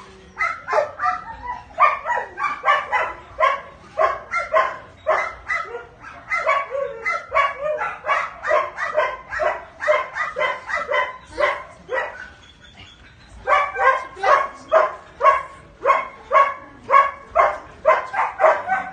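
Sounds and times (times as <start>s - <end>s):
dog barking: 0.4s - 12.4s, 13.4s - 18.9s.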